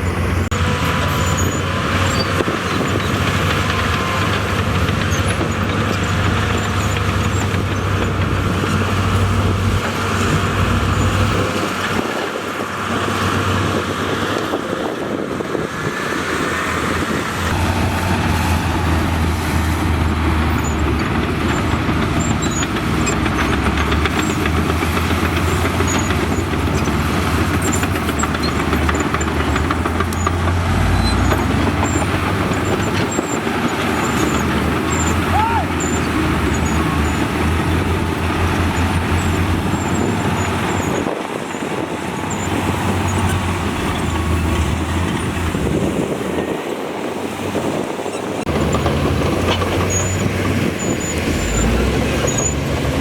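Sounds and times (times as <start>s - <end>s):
heavy machinery diesel engine rumbling: 0.0s - 53.0s.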